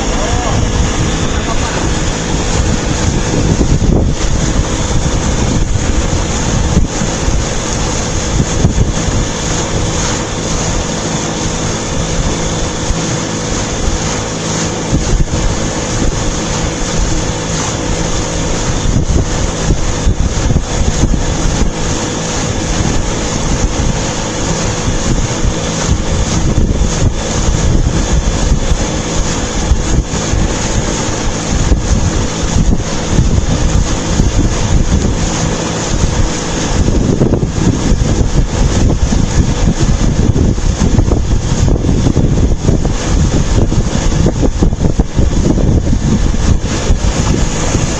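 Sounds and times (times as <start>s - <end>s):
boat engine hum: 0.0s - 47.9s
wind buffeting microphone: 0.0s - 47.9s.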